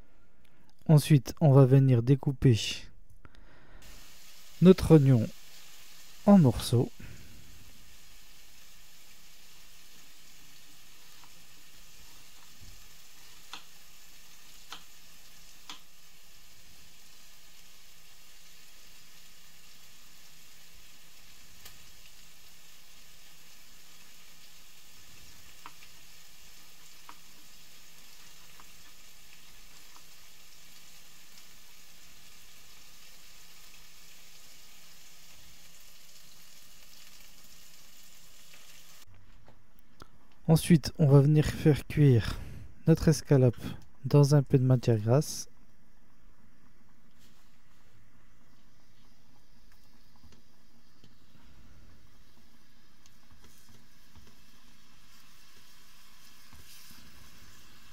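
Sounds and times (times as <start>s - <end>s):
steady background hiss: 0.0s - 57.9s.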